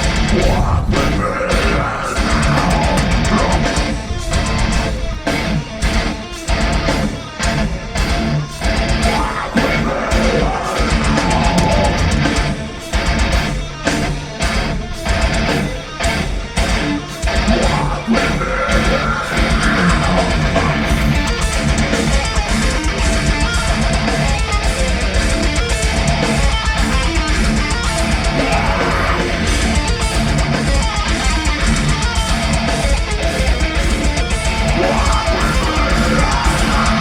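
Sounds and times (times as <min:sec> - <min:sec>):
audience noise: 0:00.0 - 0:37.0
heavy metal band playing live: 0:00.0 - 0:37.0.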